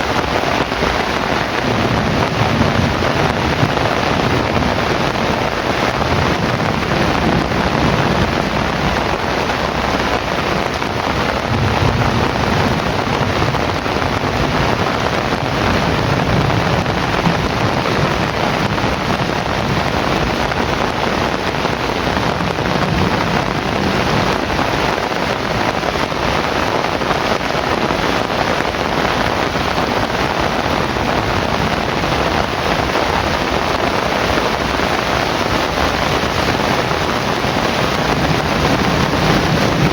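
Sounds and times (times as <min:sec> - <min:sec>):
distant thunder rumbles: 0:00.0 - 0:39.9
heavy rain falling: 0:00.0 - 0:39.9.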